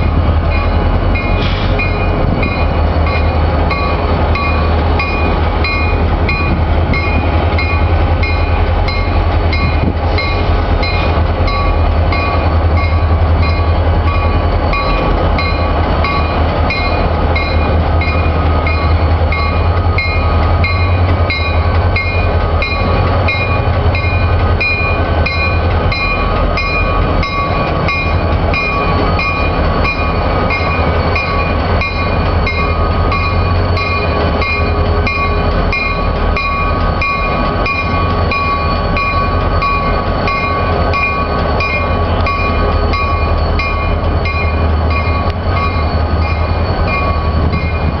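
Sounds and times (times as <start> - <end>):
steady high tones: 0.0 - 48.0
train low rumble: 0.0 - 48.0.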